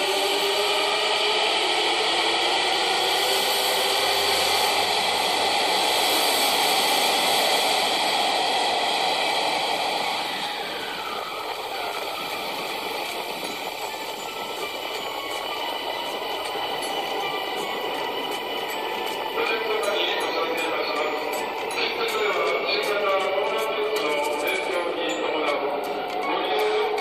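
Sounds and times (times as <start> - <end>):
traction motor whine: 0.0 - 27.0
train wheel and running noise: 0.0 - 27.0.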